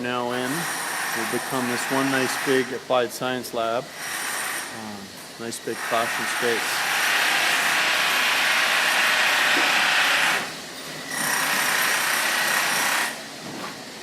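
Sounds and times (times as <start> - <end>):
power tool running loudly: 0.3 - 2.9, 3.8 - 13.3.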